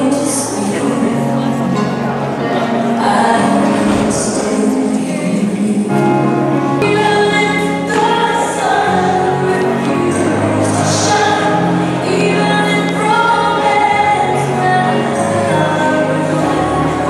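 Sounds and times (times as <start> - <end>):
song with held vocal notes: 0.0 - 17.0.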